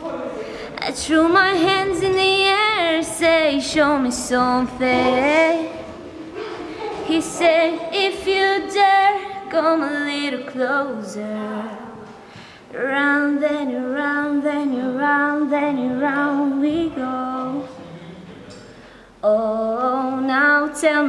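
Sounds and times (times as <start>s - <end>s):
woman singing into microphone: 0.8s - 5.9s, 7.0s - 17.8s, 19.2s - 21.0s.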